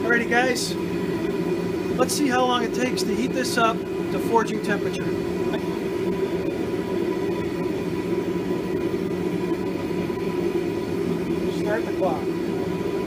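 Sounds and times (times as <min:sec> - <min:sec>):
burner flame rushing: 0:00.0 - 0:13.0.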